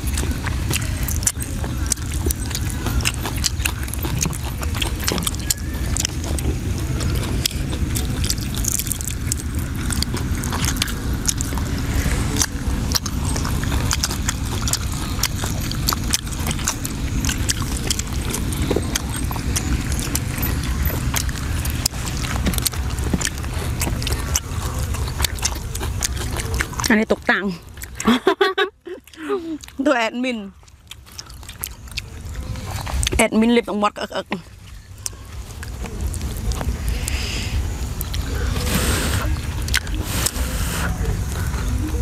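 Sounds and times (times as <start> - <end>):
chewing: 0.0 - 42.0.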